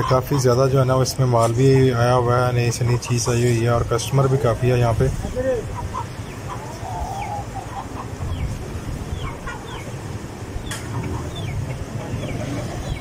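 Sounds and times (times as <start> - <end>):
poultry clucking: 0.0 - 13.0.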